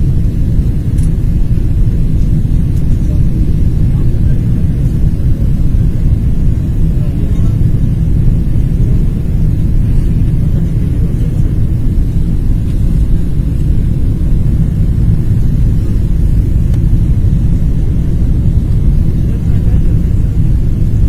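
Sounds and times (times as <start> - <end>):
airliner cabin engine rumble: 0.0 - 21.0.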